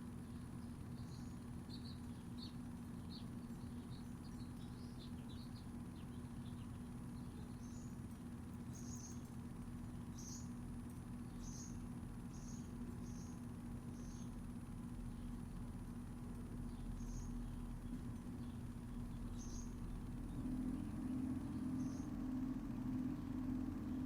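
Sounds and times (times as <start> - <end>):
steady low hum: 0.0 - 24.0
small birds chirping: 0.1 - 24.0.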